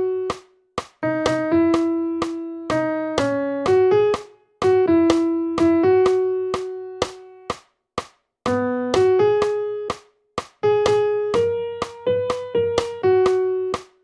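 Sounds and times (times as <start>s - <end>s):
piano-like melody: 0.0s - 7.6s, 8.4s - 14.0s.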